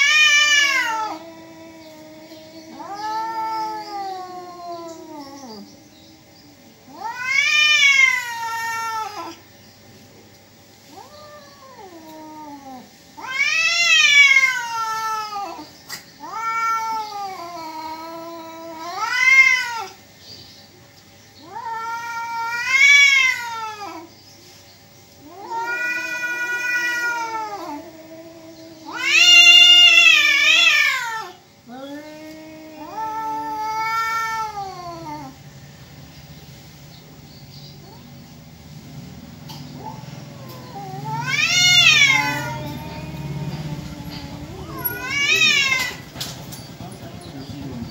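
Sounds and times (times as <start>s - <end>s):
cats yowling: 0.0s - 9.5s, 10.8s - 20.0s, 21.4s - 24.1s, 25.2s - 35.5s, 37.6s - 38.4s, 39.0s - 47.9s.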